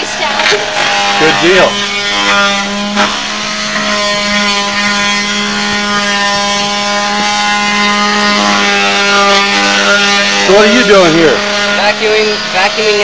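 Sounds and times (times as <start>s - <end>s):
shop vacuum motor humming: 0.0s - 13.0s.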